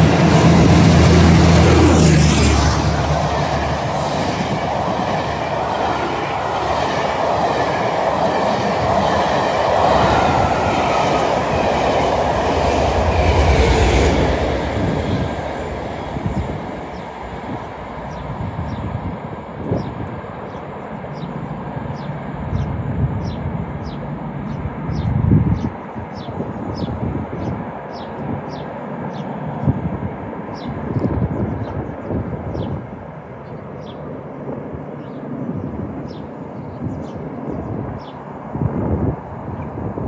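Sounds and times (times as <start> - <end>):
train passing: 0.0 - 40.0.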